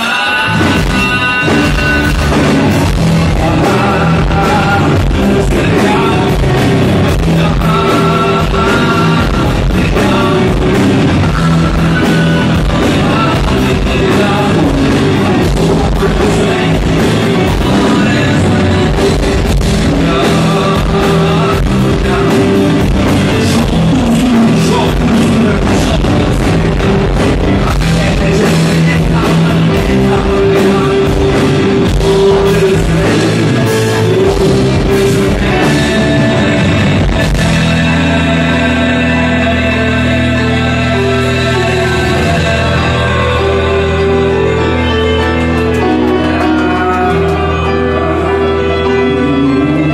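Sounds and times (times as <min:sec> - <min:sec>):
live rock band: 0:00.0 - 0:49.9
man singing lead vocal: 0:00.0 - 0:49.9.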